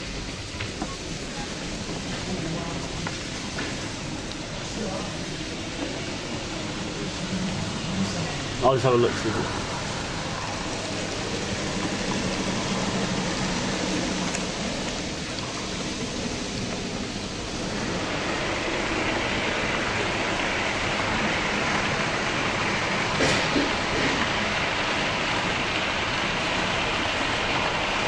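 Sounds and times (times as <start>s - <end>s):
model train whirring on track: 0.0s - 28.0s.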